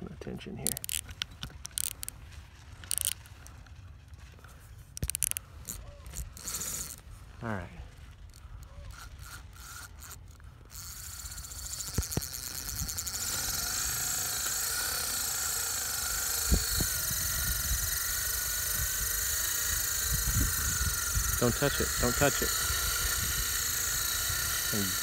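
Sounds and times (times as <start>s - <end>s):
fishing reel drag buzzing: 0.5s - 25.0s.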